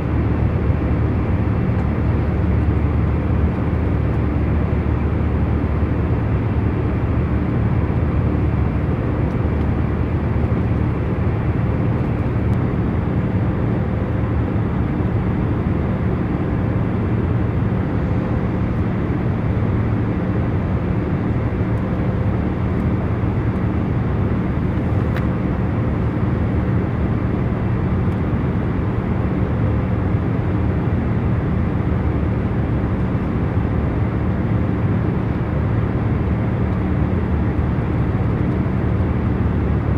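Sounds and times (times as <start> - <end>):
jet airliner cabin noise: 0.0 - 39.9.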